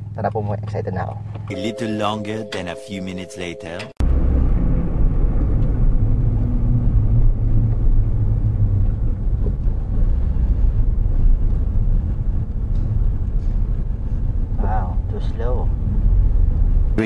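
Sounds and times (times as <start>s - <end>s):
car engine and road noise: 0.0s - 1.5s, 3.9s - 17.0s.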